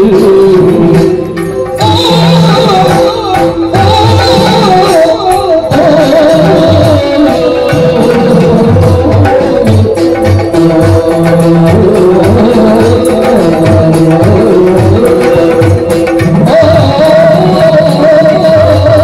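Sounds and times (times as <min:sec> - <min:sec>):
barrel drum steady rhythm: 0:00.0 - 0:19.0.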